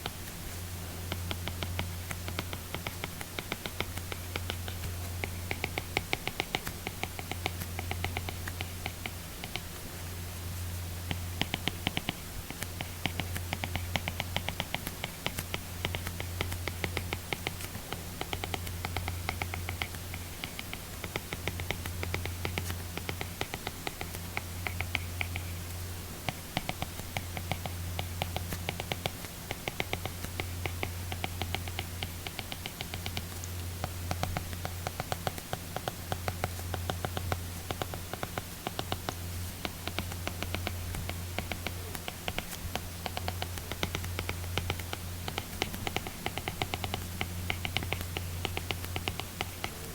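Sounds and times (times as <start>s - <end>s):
stylus tapping on tablet screen: 0.0s - 9.8s, 11.0s - 49.9s.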